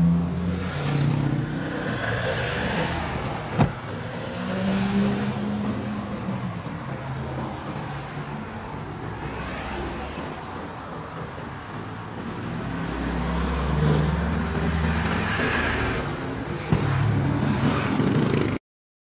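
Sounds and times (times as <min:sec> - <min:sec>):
vehicle engine rumbling: 0:00.0 - 0:18.6.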